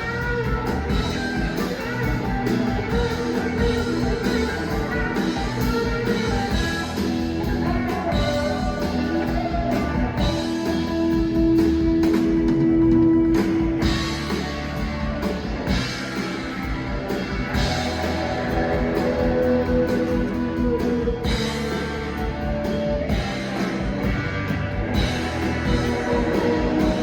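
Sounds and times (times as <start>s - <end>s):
drum kit: 0.0s - 27.0s
electric guitar: 0.0s - 27.0s.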